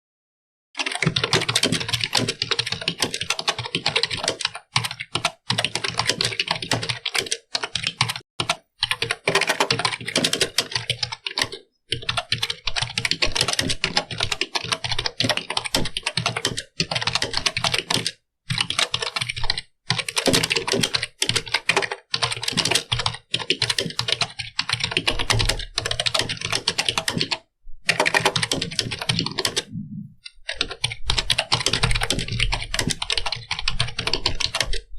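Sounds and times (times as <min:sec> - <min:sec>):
typing on computer keyboard: 0:00.8 - 0:34.9.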